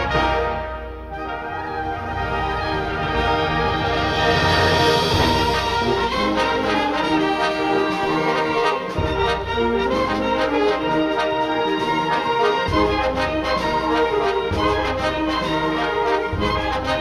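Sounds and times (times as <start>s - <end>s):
wind band brass chords: 0.0s - 17.0s.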